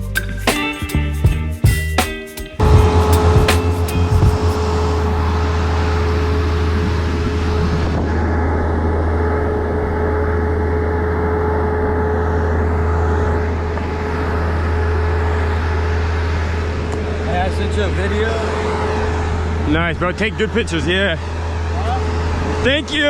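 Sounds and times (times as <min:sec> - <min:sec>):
engine droning with whine: 0:02.6 - 0:23.0.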